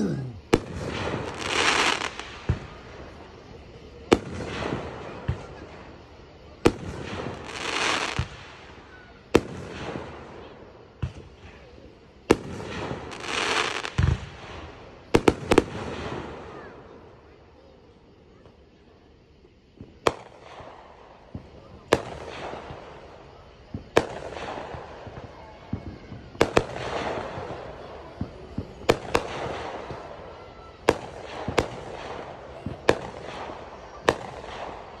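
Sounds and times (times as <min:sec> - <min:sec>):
fireworks bangs: 0:00.0 - 0:17.4, 0:19.7 - 0:35.0
crackling sizzle of fireworks: 0:00.0 - 0:35.0.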